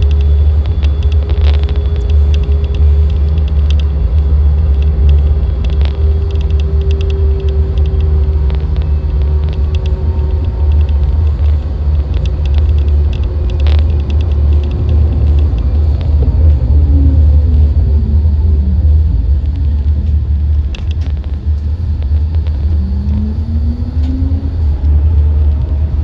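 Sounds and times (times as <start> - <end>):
faint motor whine: 0.0 - 26.0
tram low rumble: 0.0 - 26.0.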